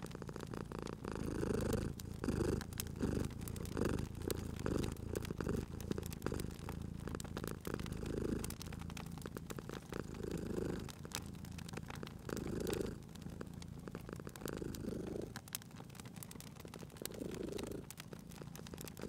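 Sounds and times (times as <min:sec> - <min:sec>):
cat purring: 0:00.0 - 0:19.0
wood fire crackling and popping: 0:00.0 - 0:19.0.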